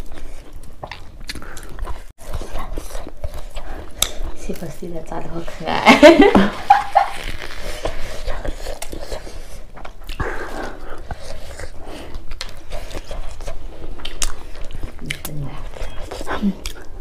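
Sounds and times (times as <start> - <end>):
people chewing and lip smacking: 0.0 - 5.7, 6.3 - 17.0.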